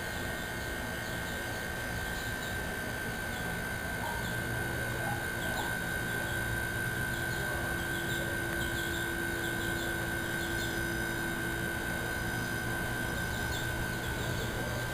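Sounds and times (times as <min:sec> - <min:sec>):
steady hum: 0:00.0 - 0:14.9.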